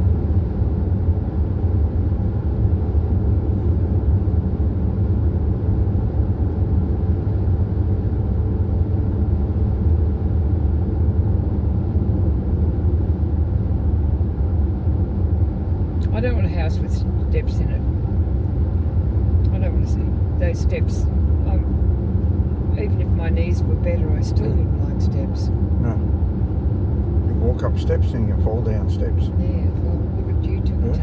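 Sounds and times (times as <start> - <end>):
vehicle driving at road speed: 0.0 - 31.0.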